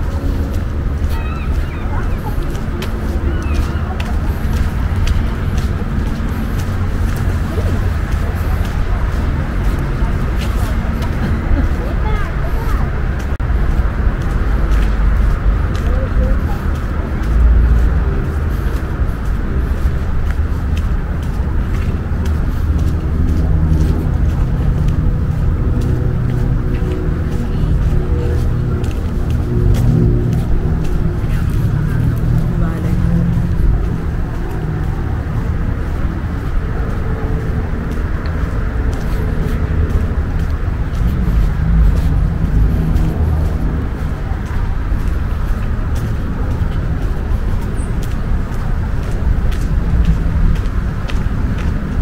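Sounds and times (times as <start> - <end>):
distant traffic rumble: 0.0 - 52.0
faint engine-like hum: 0.0 - 52.0
faint footsteps on dirt path: 0.0 - 52.0.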